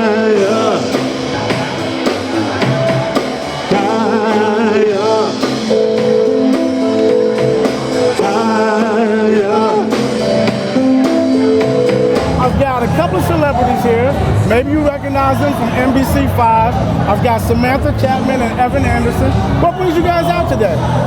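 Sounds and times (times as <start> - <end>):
drums and guitar: 0.0 - 21.0
person singing: 0.0 - 21.0.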